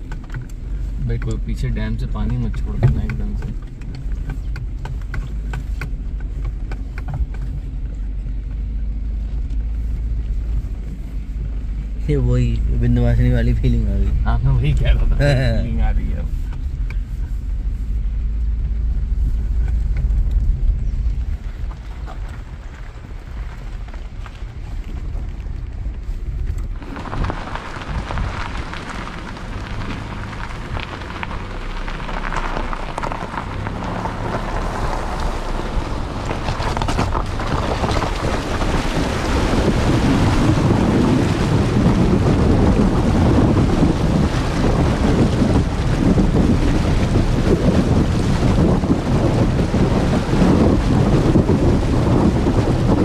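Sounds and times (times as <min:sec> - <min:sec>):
engine and tyres rumble: 0:00.0 - 0:53.0
water splashing around wheels: 0:00.0 - 0:53.0.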